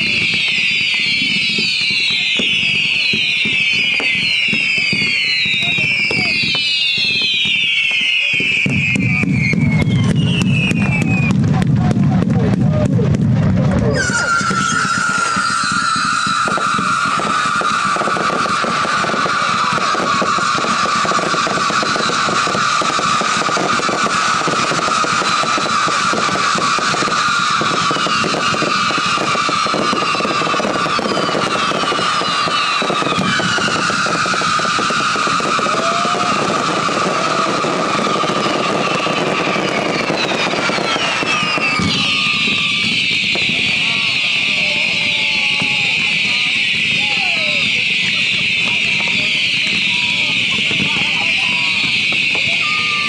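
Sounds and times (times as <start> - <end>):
falling firework whistles: 0.0 - 53.0
firework crackling: 0.0 - 53.0
steady high firework whistle: 0.0 - 53.0.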